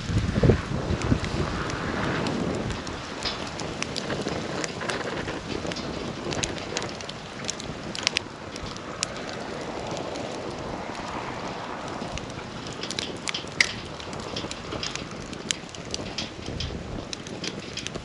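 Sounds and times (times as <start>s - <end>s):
burning wood crackling and popping: 0.0s - 18.0s
campfire flames rushing: 0.0s - 18.0s.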